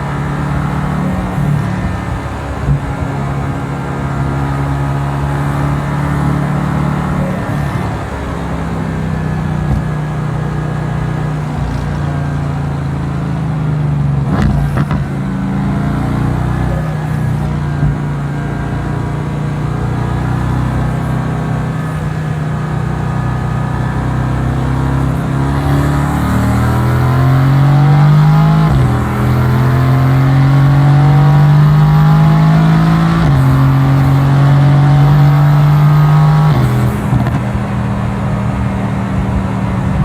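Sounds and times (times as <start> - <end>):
car engine accelerating: 0.0 - 40.0
gear upshifts: 0.0 - 40.0.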